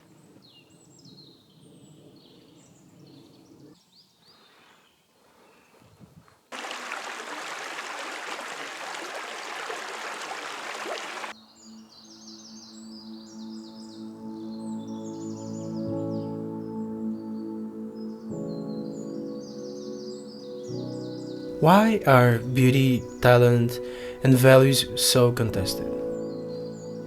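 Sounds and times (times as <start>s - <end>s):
birds chirping: 0.0s - 5.9s, 6.5s - 27.0s.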